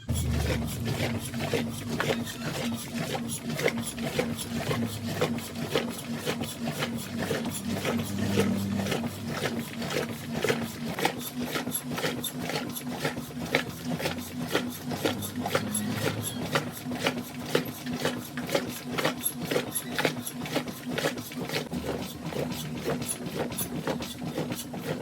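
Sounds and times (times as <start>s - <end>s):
washing machine humming and ticking: 0.0s - 25.0s.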